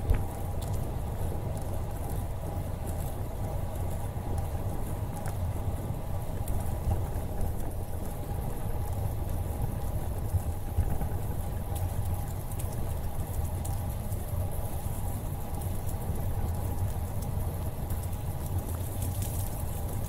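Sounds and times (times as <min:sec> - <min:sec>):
bicycle tyres rolling on pavement: 0:00.0 - 0:20.0
small ticks and rattles: 0:00.0 - 0:20.0
wind rumbling on microphone: 0:00.0 - 0:20.0.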